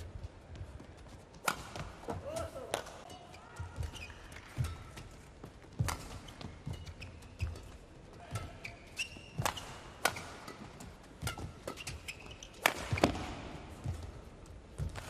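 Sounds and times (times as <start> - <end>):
shoes squeaking: 0.0 - 15.0
racket striking shuttlecock: 1.4 - 15.0.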